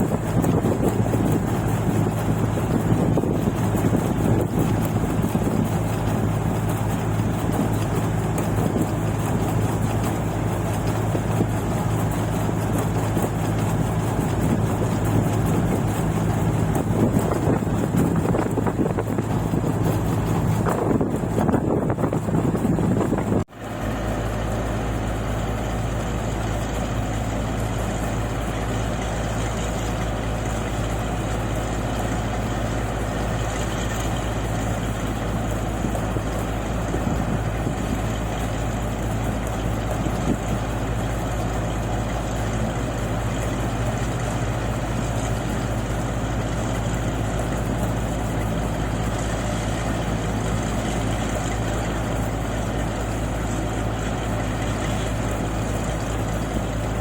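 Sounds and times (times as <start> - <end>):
machine engine humming steadily: 0.0 - 57.0.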